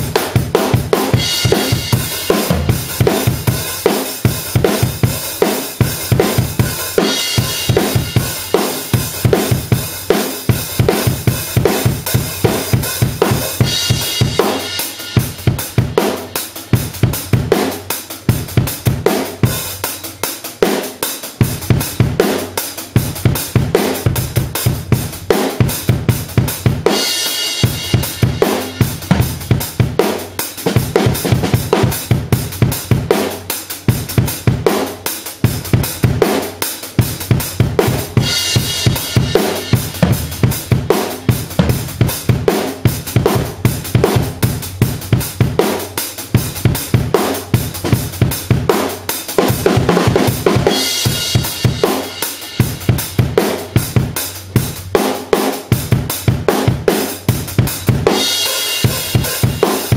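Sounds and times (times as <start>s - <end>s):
acoustic drum kit groove: 0.0s - 59.9s.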